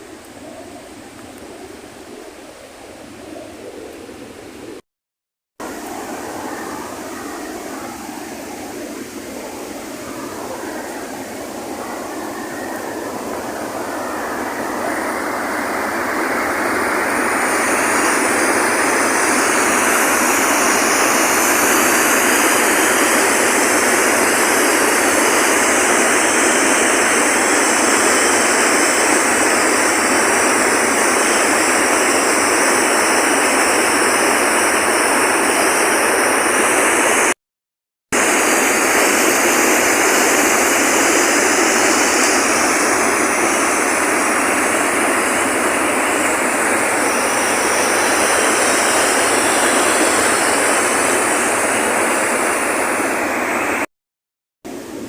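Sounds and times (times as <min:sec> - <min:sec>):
rushing water: 0:05.6 - 0:37.4, 0:38.2 - 0:53.9.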